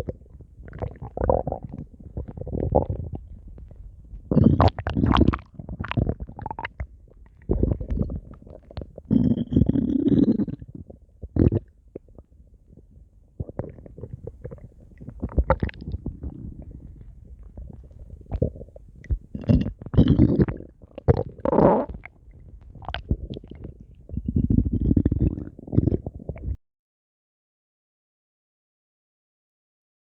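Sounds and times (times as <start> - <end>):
stomach growling and gurgling: 0.0 - 26.6.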